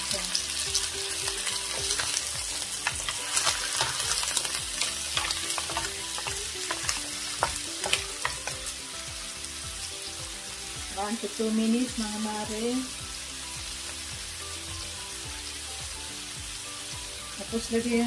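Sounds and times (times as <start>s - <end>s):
mussels sizzling in oil: 0.0s - 18.0s.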